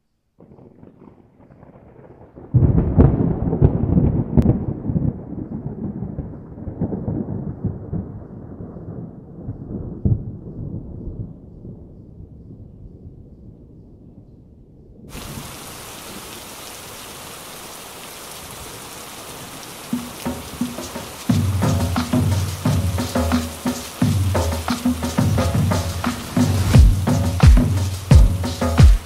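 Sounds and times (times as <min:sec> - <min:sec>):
thunder rumbling and cracking: 0:00.4 - 0:14.2, 0:18.5 - 0:28.8.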